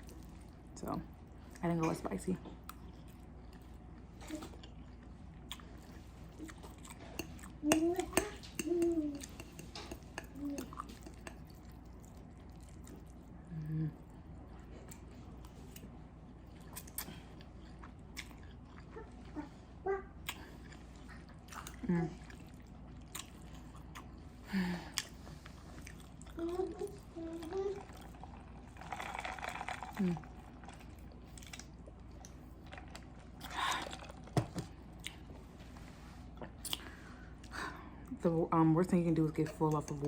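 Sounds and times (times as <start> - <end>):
person chewing with wet smacks: 0.0 - 28.7, 29.8 - 35.5, 36.2 - 37.6.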